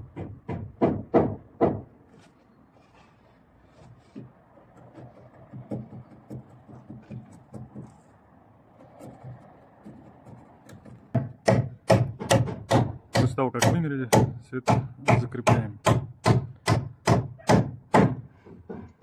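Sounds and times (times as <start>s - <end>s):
timber knocking against timber: 0.1s - 1.9s, 4.2s - 7.9s, 8.8s - 19.0s.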